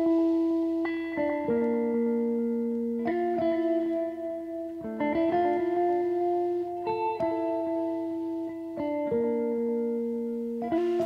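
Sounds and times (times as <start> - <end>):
picked guitar notes: 0.0 - 11.0.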